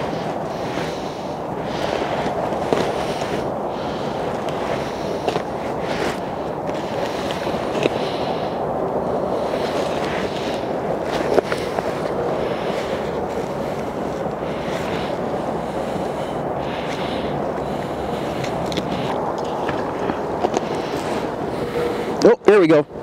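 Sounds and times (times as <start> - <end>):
stiff sheets crinkling and crackling: 0.0 - 22.1
wind on microphone: 0.0 - 23.0.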